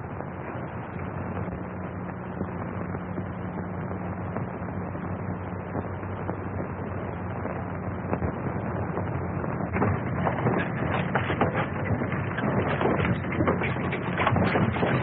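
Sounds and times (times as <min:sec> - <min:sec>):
crackles: 0:00.0 - 0:15.0
film soundtrack hiss and hum: 0:00.0 - 0:15.0.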